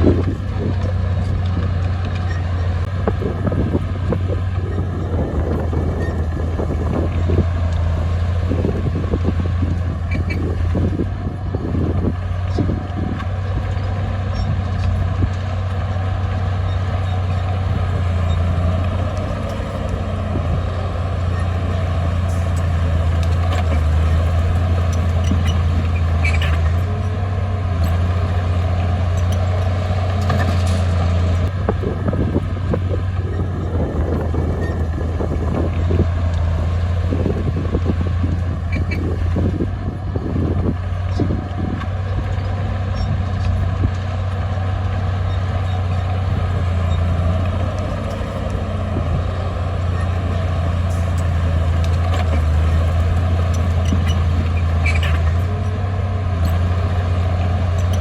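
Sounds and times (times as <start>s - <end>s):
bulldozer diesel engine humming: 0.0s - 58.0s.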